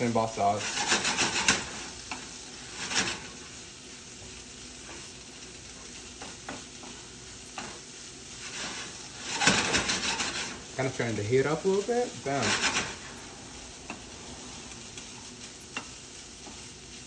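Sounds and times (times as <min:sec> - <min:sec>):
stir fry sizzling in a skillet: 0:00.0 - 0:17.0
wooden spatula scraping a pan: 0:00.1 - 0:03.6, 0:04.3 - 0:17.0.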